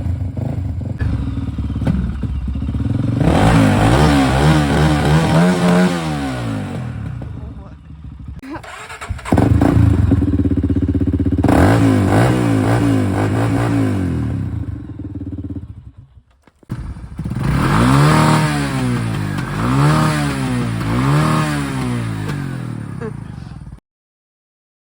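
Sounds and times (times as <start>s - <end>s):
quad engine revving in blips: 0.0s - 16.0s, 16.7s - 23.8s.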